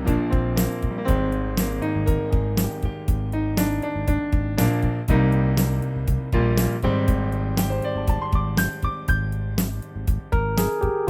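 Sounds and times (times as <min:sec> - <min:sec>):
digital piano chords: 0:00.0 - 0:11.0.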